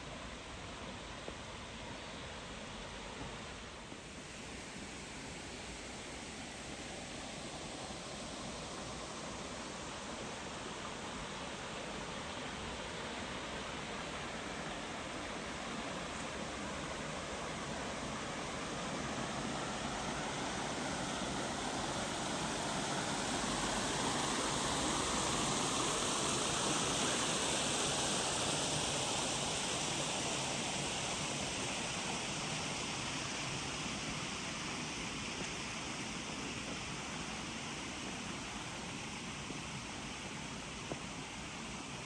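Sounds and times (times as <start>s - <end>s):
stream water over rocks: 0.0s - 42.0s.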